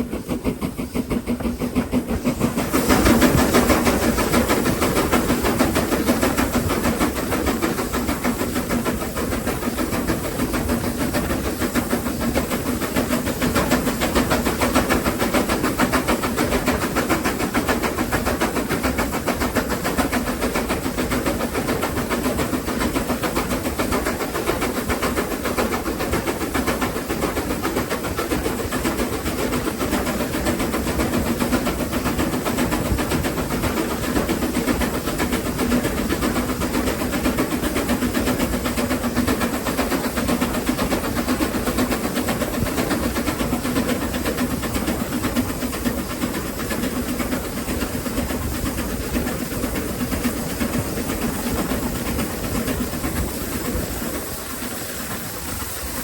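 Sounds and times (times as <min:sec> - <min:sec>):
steam locomotive running: 0:00.0 - 0:56.0.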